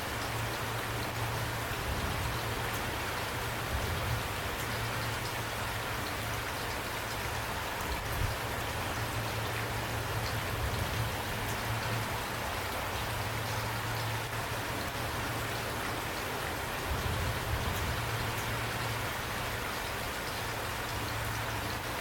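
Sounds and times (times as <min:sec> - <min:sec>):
raindrops ticking close by: 0:00.0 - 0:22.0
steady rain hiss: 0:00.0 - 0:22.0.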